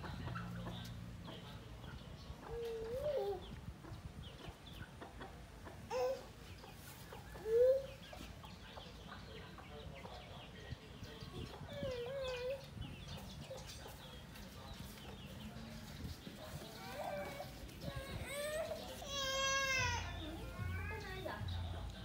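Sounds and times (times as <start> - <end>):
chickens calling: 0.0 - 22.0.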